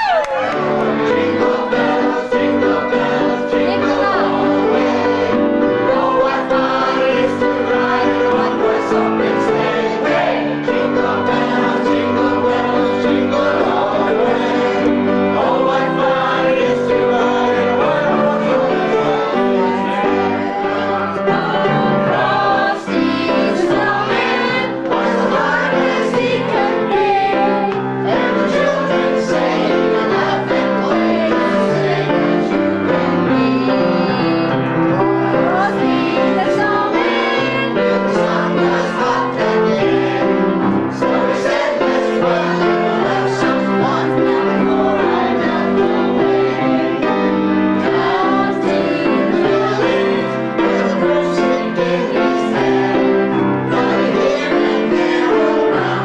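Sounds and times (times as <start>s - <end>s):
piano accompaniment: 0.0s - 56.0s
children and adults singing: 0.7s - 56.0s.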